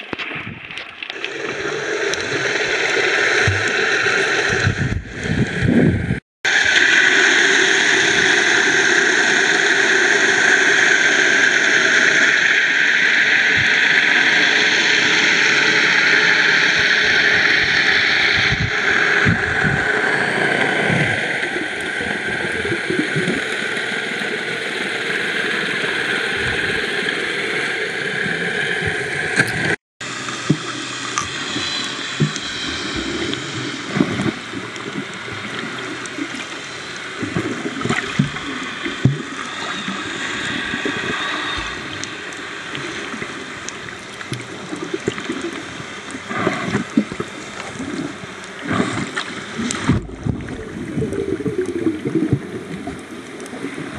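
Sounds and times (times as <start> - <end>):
low gurgles and pops: 0.0 - 53.9
underwater rushing hiss: 0.0 - 53.9.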